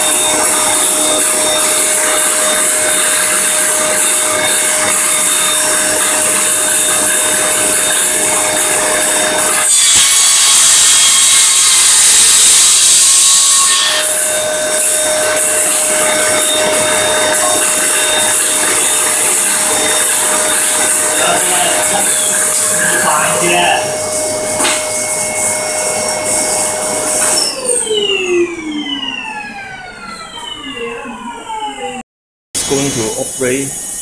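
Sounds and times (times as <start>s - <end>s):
table saw cutting board: 0.0s - 32.0s, 32.6s - 34.0s
vacuum cleaner running: 0.0s - 32.0s, 32.6s - 34.0s.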